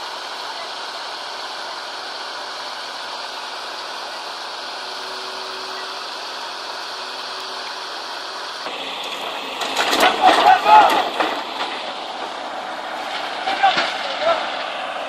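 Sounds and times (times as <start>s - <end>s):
diesel engine under load: 0.0s - 15.0s
loud rough noise: 0.0s - 15.0s.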